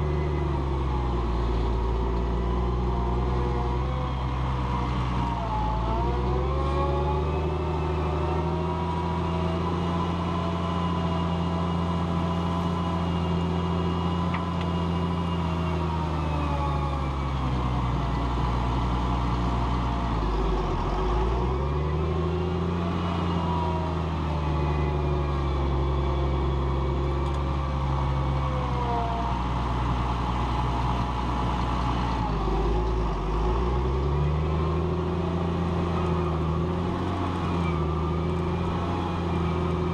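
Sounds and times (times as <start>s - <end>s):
tractor engine running hard: 0.0s - 39.9s.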